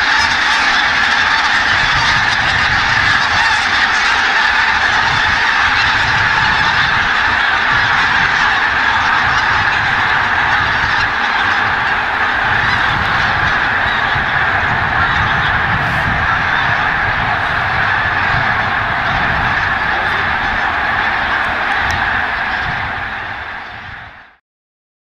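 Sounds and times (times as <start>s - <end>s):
flock of geese calling: 0.0s - 24.4s.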